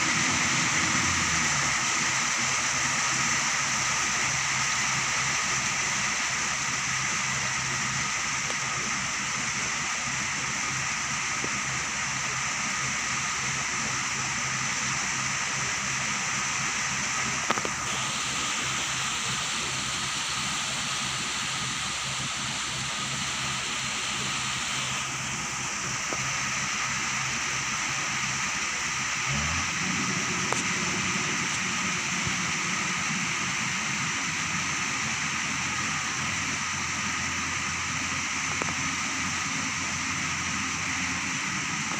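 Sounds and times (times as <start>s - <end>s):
combine harvester diesel engine: 0.0s - 41.9s
rain hissing: 0.0s - 41.9s.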